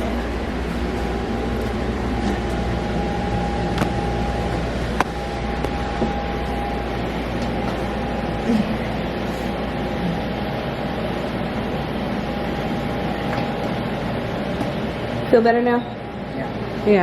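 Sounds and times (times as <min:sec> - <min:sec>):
machine hum and hiss: 0:00.0 - 0:17.0
thin constant whine: 0:00.0 - 0:17.0.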